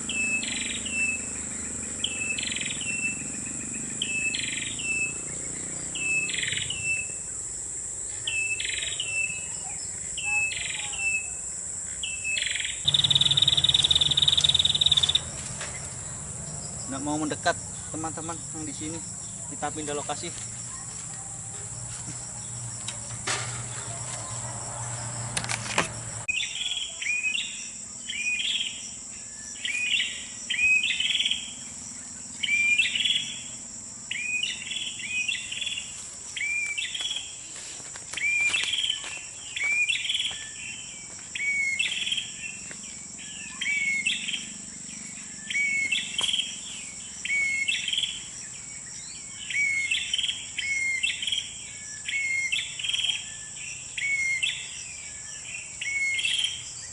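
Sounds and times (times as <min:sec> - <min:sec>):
bird song in sharp phrases: 0:00.0 - 0:25.7, 0:26.3 - 0:37.5, 0:38.1 - 0:56.9
high-pitched insect drone: 0:00.0 - 0:37.5, 0:38.4 - 0:56.9.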